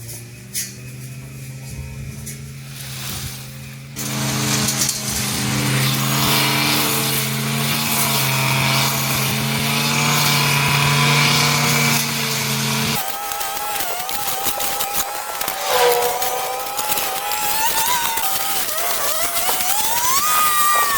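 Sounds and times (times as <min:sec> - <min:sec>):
power tool motor running: 0:00.0 - 0:20.9.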